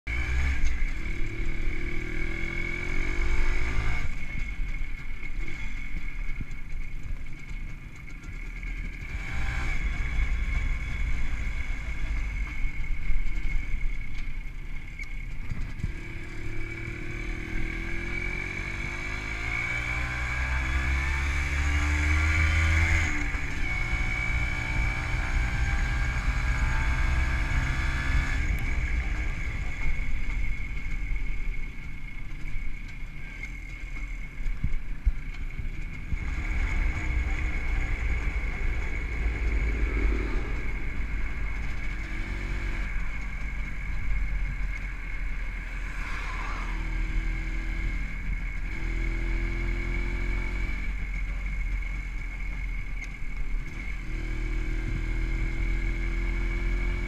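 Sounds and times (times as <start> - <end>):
wind rumbling on microphone: 0.1 - 56.6
two-stroke motorcycle engine: 0.1 - 57.0.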